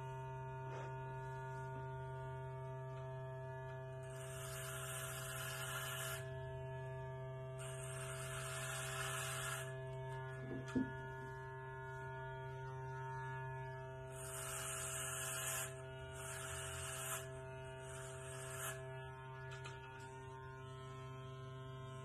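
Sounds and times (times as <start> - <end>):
hair clippers buzzing: 0.7 - 12.0, 12.6 - 22.0.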